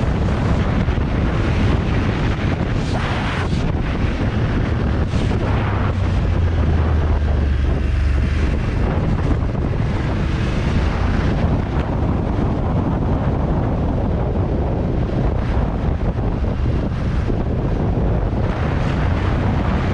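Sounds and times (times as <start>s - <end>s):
motorcycle engine rumble: 0.0s - 19.9s
wind buffeting microphone: 0.0s - 19.9s.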